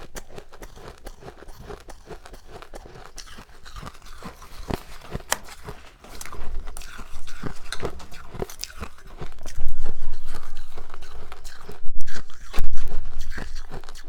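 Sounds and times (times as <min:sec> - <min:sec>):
crunchy chewing of frost: 0:00.0 - 0:14.0.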